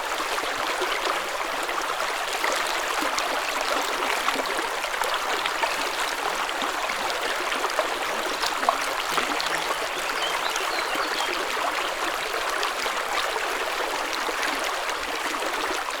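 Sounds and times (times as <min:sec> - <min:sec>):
stream water trickling: 0:00.0 - 0:16.0.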